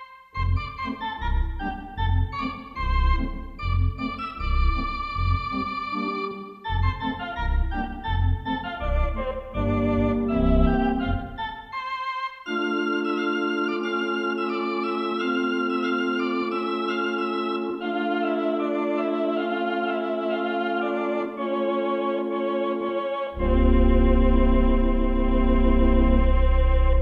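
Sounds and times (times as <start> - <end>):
theatre organ playing: 0.4 - 11.9, 12.5 - 27.0.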